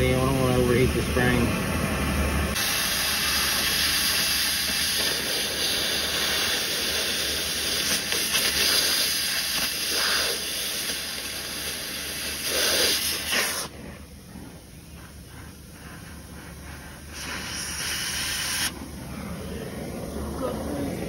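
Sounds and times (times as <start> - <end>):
cutting torch hissing: 0.0 - 21.0.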